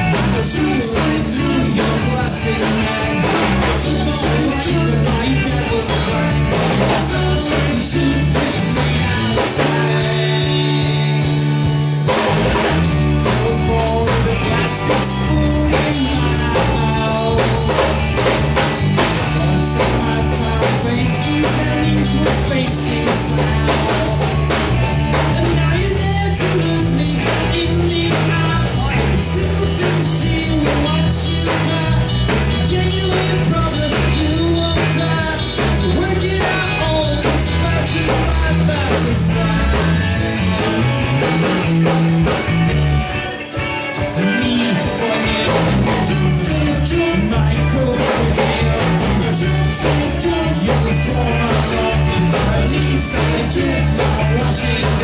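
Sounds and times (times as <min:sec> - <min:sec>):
man singing: 0:00.0 - 0:42.4, 0:43.1 - 0:55.0
bass line: 0:00.0 - 0:55.0
live rock band playing: 0:00.0 - 0:55.0
steady drum beat: 0:00.0 - 0:55.0.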